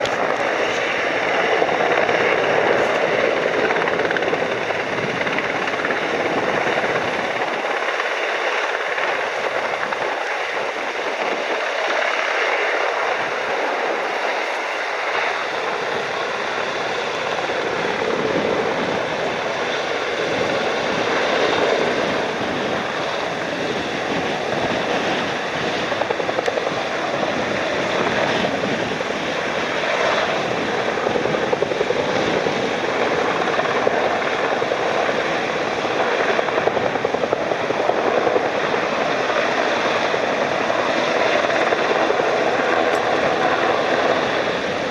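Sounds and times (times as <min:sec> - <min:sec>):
gusting wind and rain: 0:00.0 - 0:44.9.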